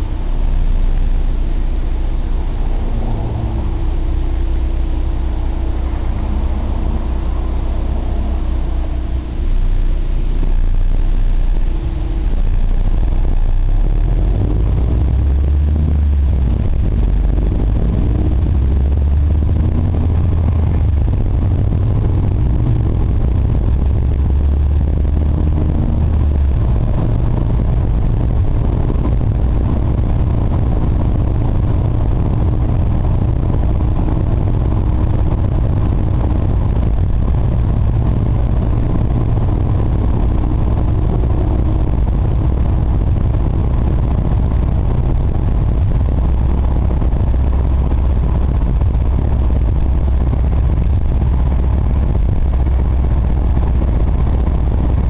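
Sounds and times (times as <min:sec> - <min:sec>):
road noise: 0:00.0 - 0:55.0
vehicle engine drone: 0:00.0 - 0:55.0.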